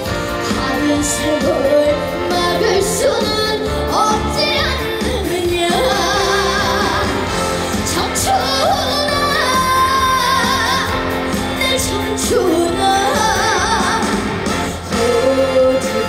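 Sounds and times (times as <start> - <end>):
loud instrumental accompaniment: 0.0 - 16.0
woman singing with vibrato: 0.0 - 16.0.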